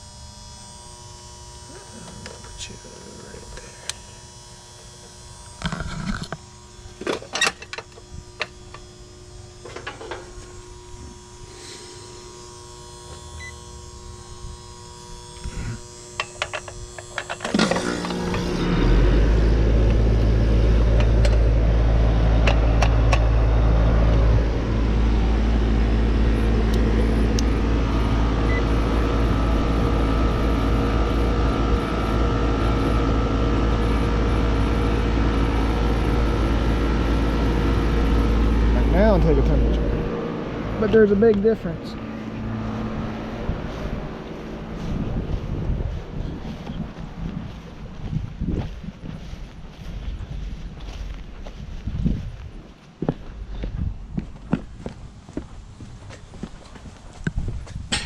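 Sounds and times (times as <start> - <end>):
air conditioner unit droning: 0.0 - 58.0
steady electrical hum: 0.0 - 58.0.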